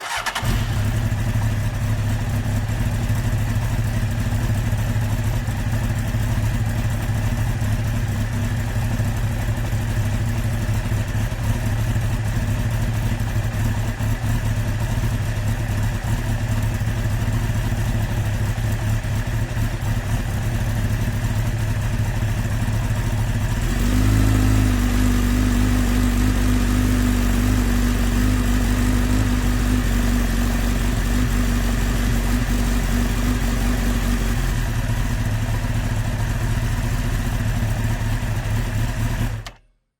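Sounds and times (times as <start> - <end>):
motorcycle engine idling: 0.0 - 39.6.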